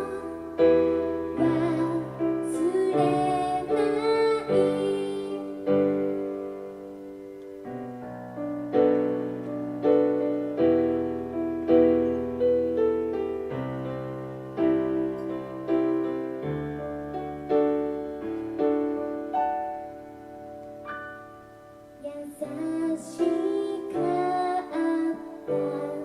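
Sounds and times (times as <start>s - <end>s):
piano chords ringing: 0.0s - 26.0s.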